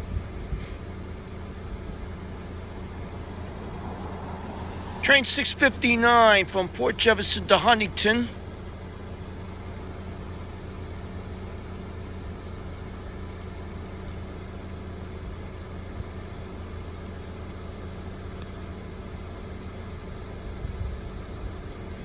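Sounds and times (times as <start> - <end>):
distant engine hum: 0.0 - 22.0.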